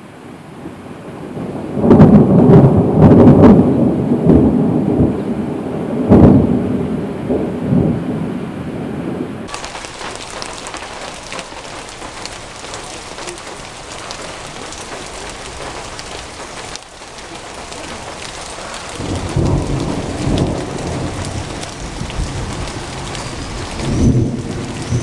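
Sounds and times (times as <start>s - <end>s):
heavy rain pattering: 0.0s - 25.0s
raindrops ticking nearby: 0.5s - 25.0s
thunder rumbling: 0.5s - 25.0s.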